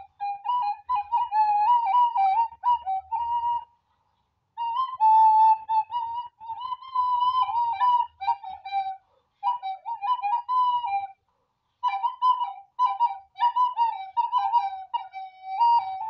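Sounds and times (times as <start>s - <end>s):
recorder playing a melody: 0.0s - 3.7s, 4.6s - 11.2s, 11.8s - 16.0s.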